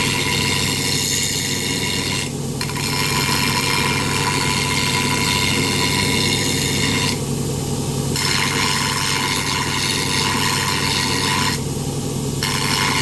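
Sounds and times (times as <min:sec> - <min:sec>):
power grinder grinding metal: 0:00.0 - 0:07.2, 0:08.2 - 0:11.6, 0:12.4 - 0:13.0.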